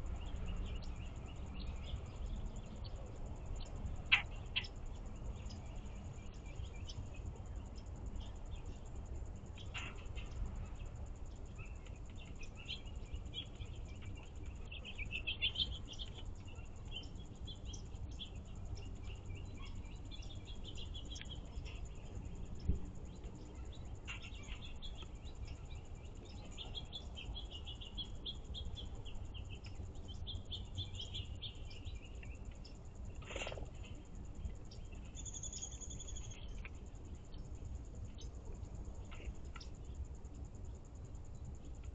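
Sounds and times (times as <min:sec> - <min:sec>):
songbirds chirping and singing: 0:00.0 - 0:37.5
low outdoor rumble: 0:00.0 - 0:41.9.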